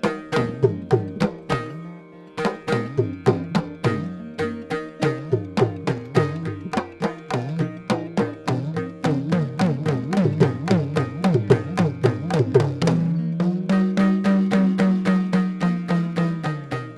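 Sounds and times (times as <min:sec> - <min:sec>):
hand drum playing: 0:00.0 - 0:16.9.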